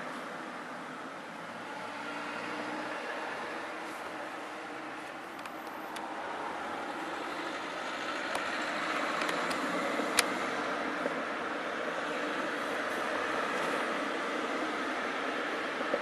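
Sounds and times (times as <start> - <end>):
steady rushing background noise: 2.8 - 16.0.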